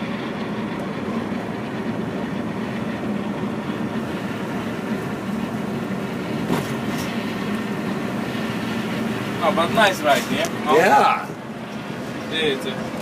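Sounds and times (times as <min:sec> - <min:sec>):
bus engine drone: 0:00.0 - 0:13.0
road and tyre noise: 0:00.0 - 0:13.0.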